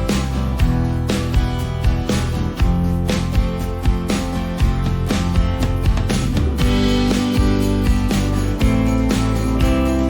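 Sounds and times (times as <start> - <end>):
upbeat strummed guitar music: 0.0 - 10.0.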